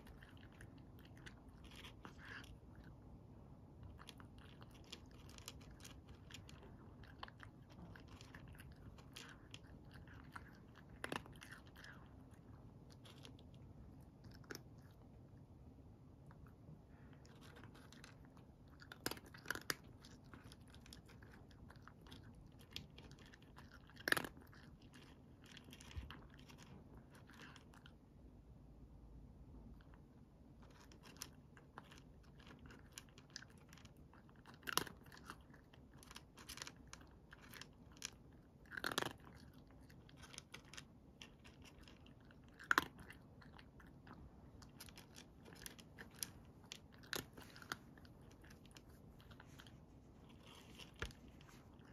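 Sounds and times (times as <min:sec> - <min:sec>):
cat crunching dry kibble: 0:00.0 - 0:28.1, 0:29.6 - 0:51.9.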